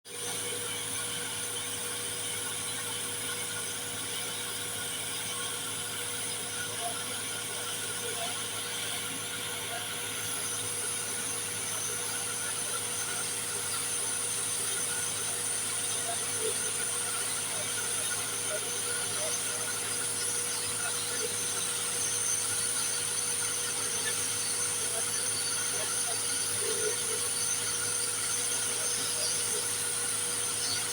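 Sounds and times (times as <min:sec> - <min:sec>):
high mechanical whine: 0:00.2 - 0:30.9.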